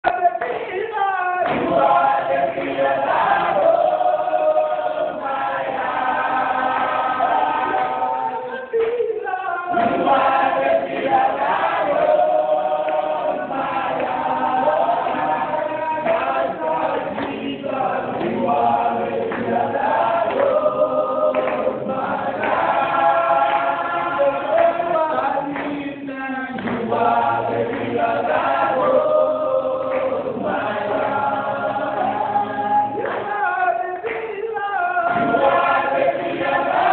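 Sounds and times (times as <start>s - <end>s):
group singing in harmony: 0.1s - 36.9s.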